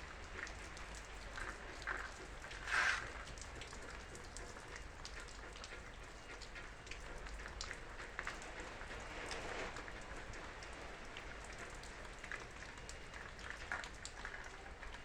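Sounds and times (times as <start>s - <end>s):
heavy rain on hard surface: 0.0s - 15.0s.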